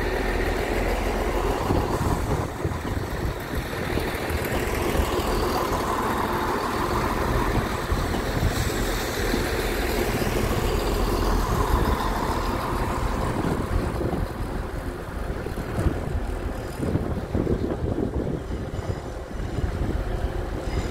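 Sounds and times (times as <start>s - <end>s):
diesel train passing: 0.0s - 20.9s
train wheels on rails: 0.0s - 20.9s.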